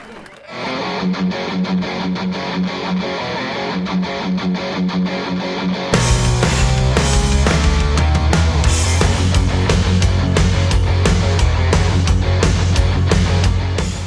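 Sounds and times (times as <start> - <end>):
rock music with guitar: 0.5 - 14.0.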